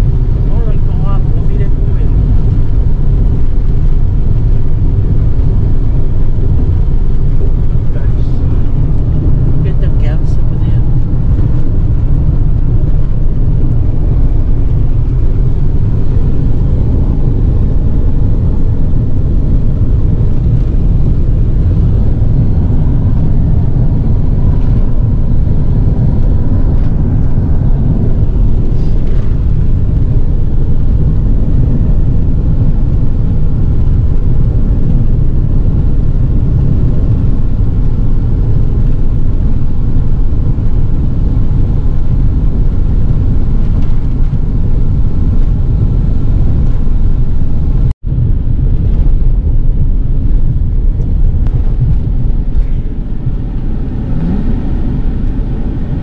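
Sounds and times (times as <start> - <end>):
road and wind noise inside car: 0.0 - 56.0.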